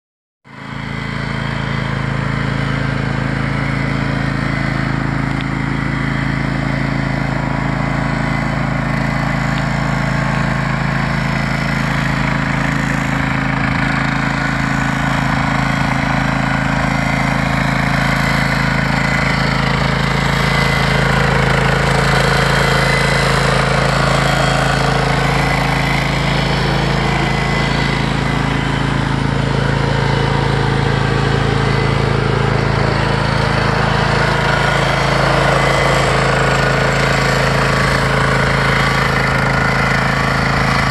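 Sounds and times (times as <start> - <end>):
mower engine running: 0.5 - 40.9.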